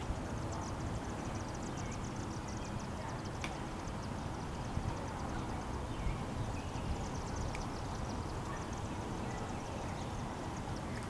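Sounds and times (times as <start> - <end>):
faint high chirping: 0.0 - 11.0.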